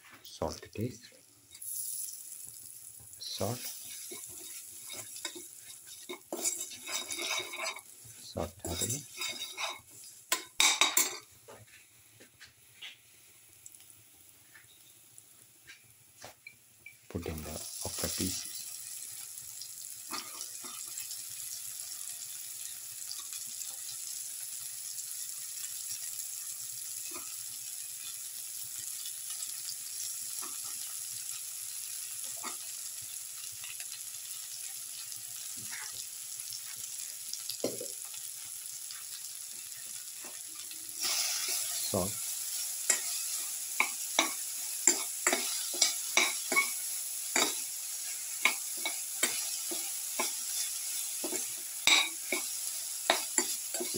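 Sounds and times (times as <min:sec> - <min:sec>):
okra sizzling in hot oil: 0:00.4 - 0:53.9.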